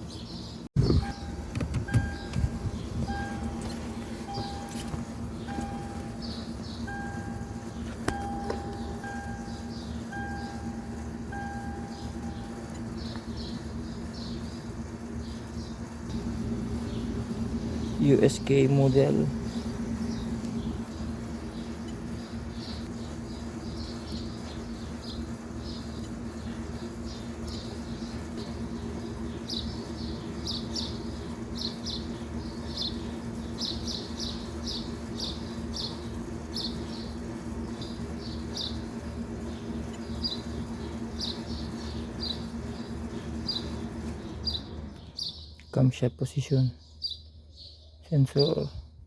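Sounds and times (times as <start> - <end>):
low mechanical hum: 0.0 - 49.0
small birds chirping: 0.0 - 49.0.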